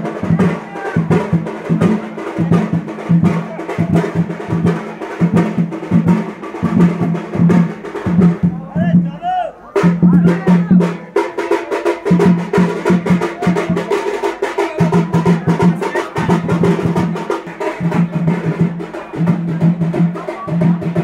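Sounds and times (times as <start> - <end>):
music with fast dense drumming: 0.0 - 21.0.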